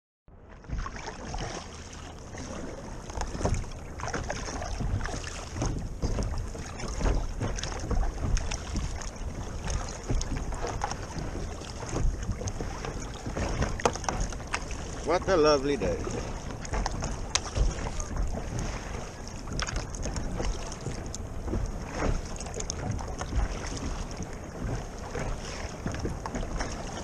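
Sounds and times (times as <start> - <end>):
water splashing from paddle strokes: 0.4 - 27.0
wind rumble on microphone: 0.6 - 27.0.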